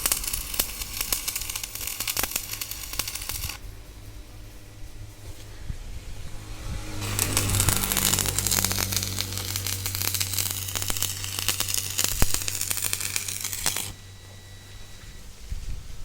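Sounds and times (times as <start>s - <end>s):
arc welding crackling: 0.0s - 15.0s
steady low hum: 0.0s - 16.0s.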